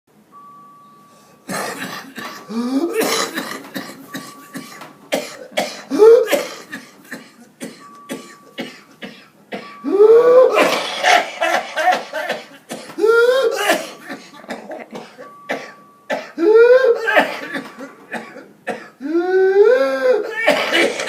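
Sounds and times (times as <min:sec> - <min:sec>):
faint steady tone: 0:00.1 - 0:10.6, 0:11.5 - 0:19.6
whooping cough fit: 0:01.5 - 0:09.8, 0:10.4 - 0:21.0.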